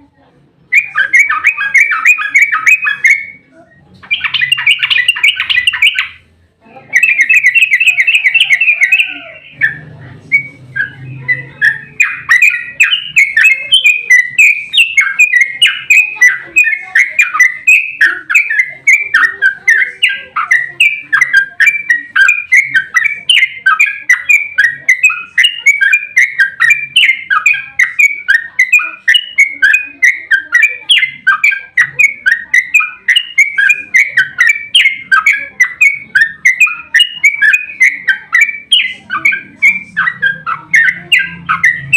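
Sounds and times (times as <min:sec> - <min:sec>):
bird chirping repeatedly: 0:00.0 - 0:41.9
bird singing chattering notes: 0:00.6 - 0:41.9.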